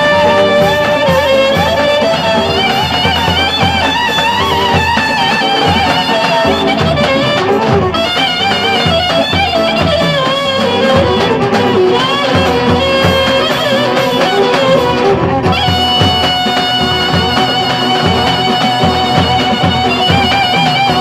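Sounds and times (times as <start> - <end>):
clarinet melody: 0.0 - 21.0
drum beats: 0.0 - 21.0.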